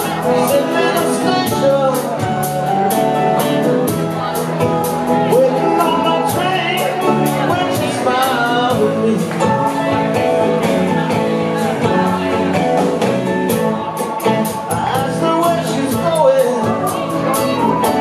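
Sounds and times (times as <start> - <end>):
electric guitar: 0.0 - 18.0
steady drum beat: 0.0 - 18.0.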